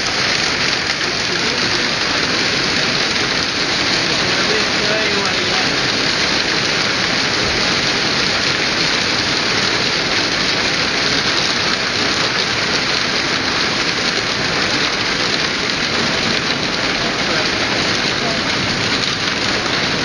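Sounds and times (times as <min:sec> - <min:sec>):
hail pelting on paving and lawn: 0:00.0 - 0:20.0.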